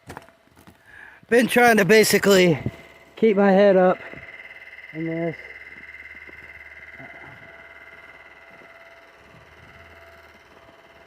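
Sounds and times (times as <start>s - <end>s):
low hum: 0.0s - 11.0s
high-pitched whine: 0.1s - 11.0s.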